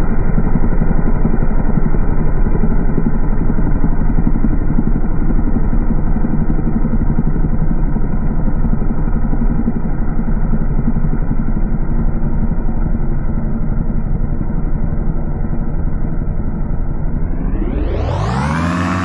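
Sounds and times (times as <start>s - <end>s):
slowed engine deep rumble: 0.0s - 19.0s.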